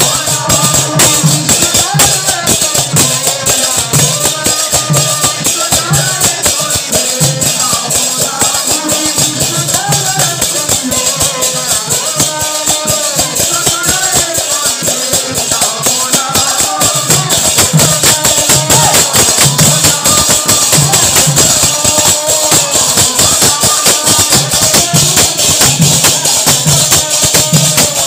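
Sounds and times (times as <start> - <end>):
jingling hand percussion: 0.0 - 28.0
low drum beat: 0.0 - 28.0
voices singing: 0.0 - 28.0.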